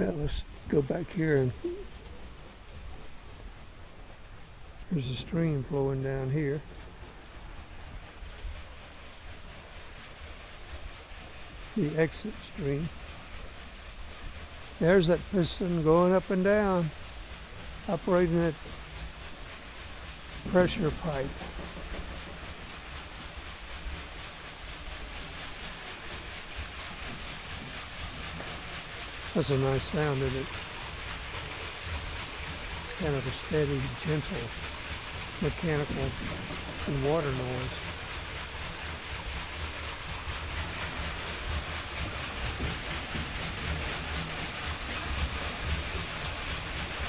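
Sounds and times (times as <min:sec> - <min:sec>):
water falling from waterwheel: 0:00.0 - 0:47.0.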